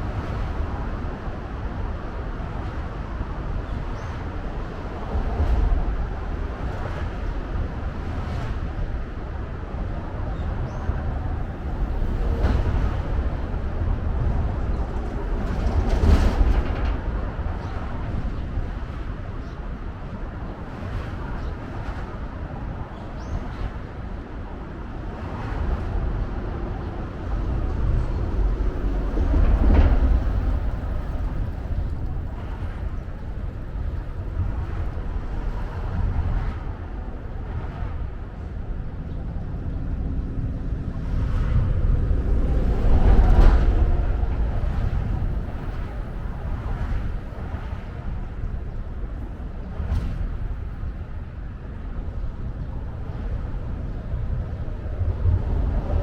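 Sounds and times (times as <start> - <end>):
low rumble of traffic: 0.0 - 56.0.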